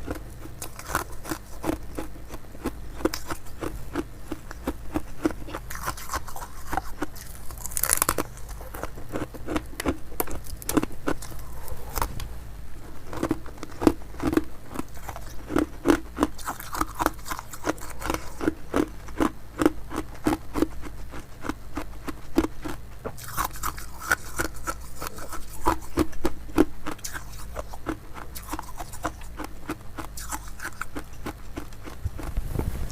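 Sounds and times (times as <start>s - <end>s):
ice crunching chews: 0.0s - 12.2s, 12.9s - 32.4s.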